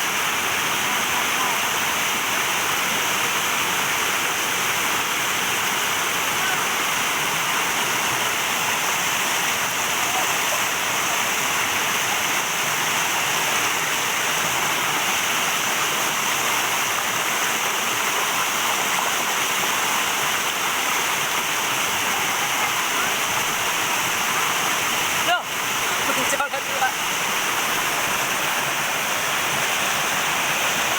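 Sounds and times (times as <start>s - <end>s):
river water rushing: 0.0s - 30.9s.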